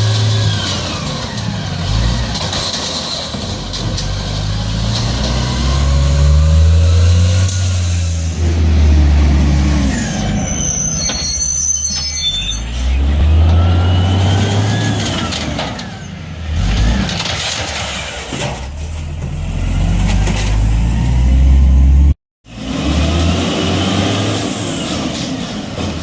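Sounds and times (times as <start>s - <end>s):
garbage truck engine revving: 0.0s - 11.0s, 12.7s - 25.8s.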